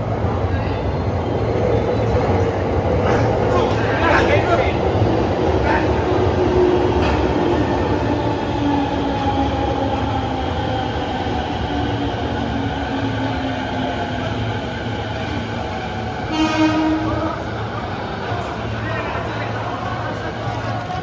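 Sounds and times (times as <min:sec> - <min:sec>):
train running gear rumbling: 0:01.4 - 0:18.8.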